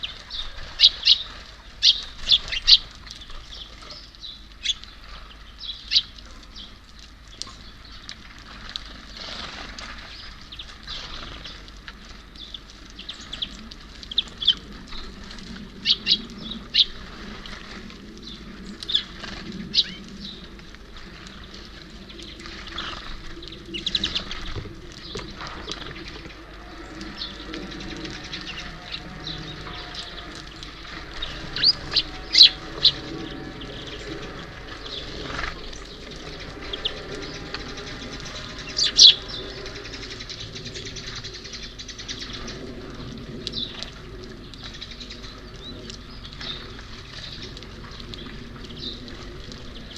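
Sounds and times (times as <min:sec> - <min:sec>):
small birds chirping: 0:00.0 - 0:49.9
wings fluttering: 0:00.0 - 0:49.9.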